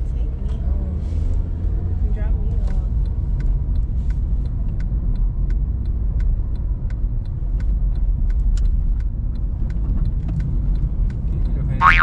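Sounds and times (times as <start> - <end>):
light clicks and ticks: 0.0 - 11.8
car road noise rumble: 0.0 - 12.0.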